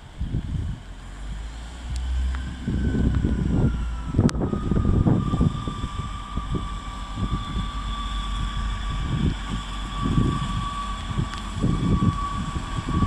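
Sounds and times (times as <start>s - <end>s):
wind buffeting the microphone: 0.0s - 1.2s, 1.8s - 13.0s
diesel train engine whining: 0.0s - 13.0s.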